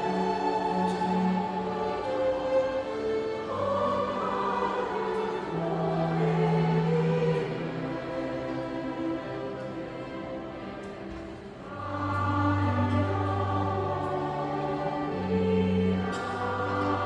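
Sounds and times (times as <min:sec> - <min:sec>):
vocal ensemble singing: 0:00.0 - 0:17.0.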